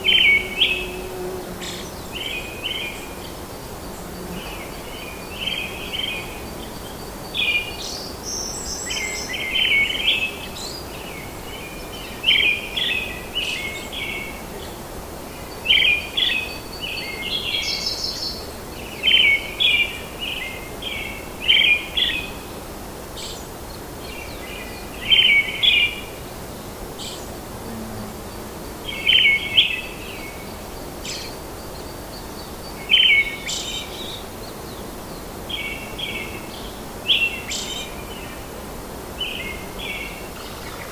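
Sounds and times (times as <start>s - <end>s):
background hiss: 0.0s - 40.9s.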